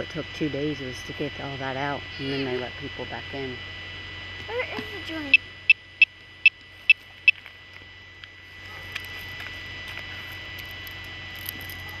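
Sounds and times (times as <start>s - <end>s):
low hum: 0.0s - 12.0s
steady high tone: 0.0s - 12.0s.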